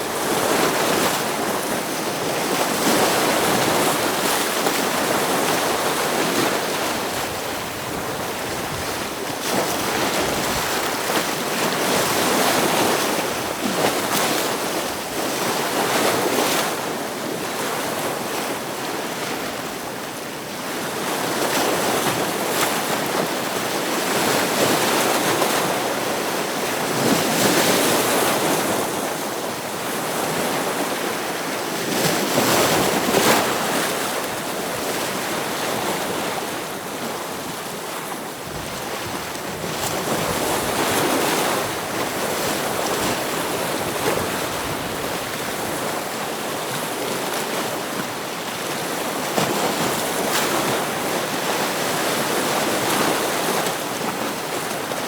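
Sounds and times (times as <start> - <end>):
ocean waves breaking on rocks: 0.0 - 55.0.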